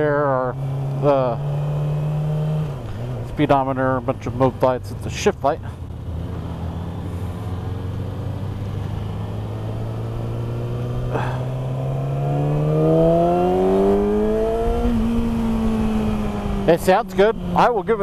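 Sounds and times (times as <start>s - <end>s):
motorcycle engine revving: 0.0s - 4.8s, 5.8s - 18.0s.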